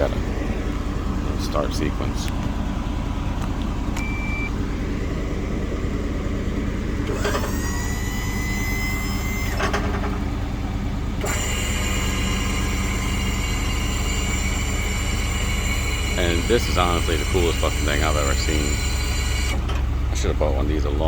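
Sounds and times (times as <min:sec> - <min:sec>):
crane motor whine: 0:00.0 - 0:20.2
higher motor whine: 0:00.0 - 0:21.0
truck engine idling: 0:00.0 - 0:21.0.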